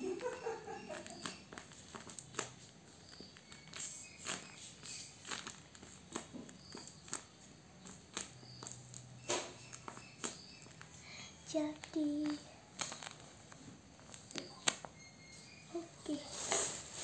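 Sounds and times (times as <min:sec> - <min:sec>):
paper and tape crinkling: 0:00.0 - 0:17.0.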